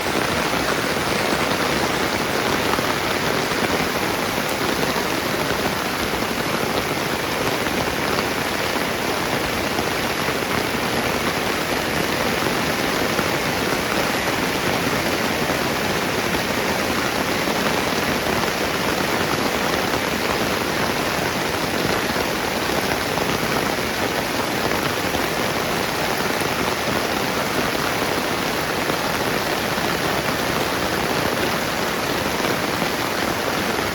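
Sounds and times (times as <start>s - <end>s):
rain falling on surfaces: 0.0s - 33.9s.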